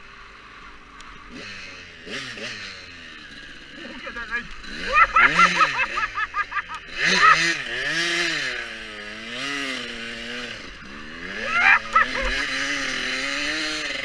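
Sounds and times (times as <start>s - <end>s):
dirt bike engine revving: 0.2s - 14.0s.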